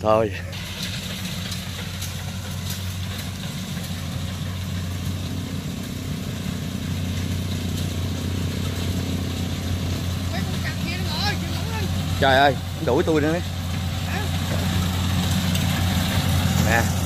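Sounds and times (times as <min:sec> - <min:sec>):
combine harvester diesel engine: 0:00.0 - 0:17.0.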